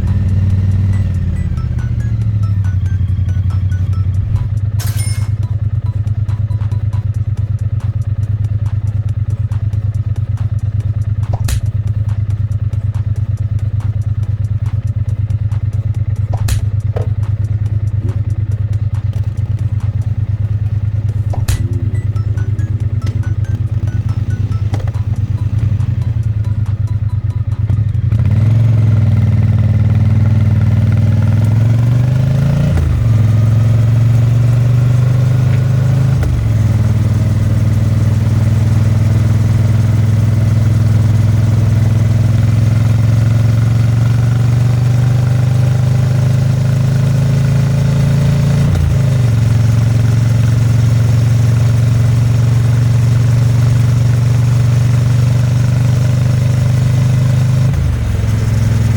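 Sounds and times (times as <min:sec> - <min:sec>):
motorcycle engine exhaust: 0:00.0 - 0:58.9.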